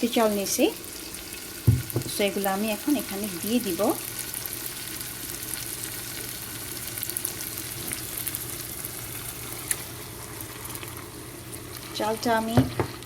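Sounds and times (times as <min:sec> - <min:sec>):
rice sizzling in hot oil: 0:00.0 - 0:13.0.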